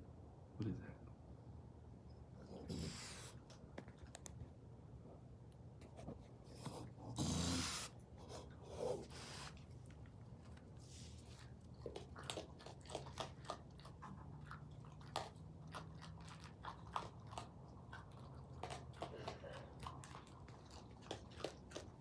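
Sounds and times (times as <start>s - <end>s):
raccoon chewing and crunching food: 2.6s - 4.6s, 5.6s - 22.0s.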